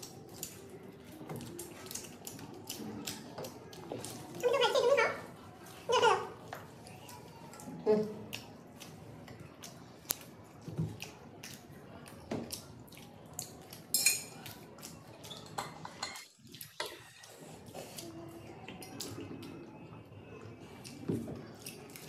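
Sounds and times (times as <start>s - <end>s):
people chewing pizza: 0.0s - 22.0s.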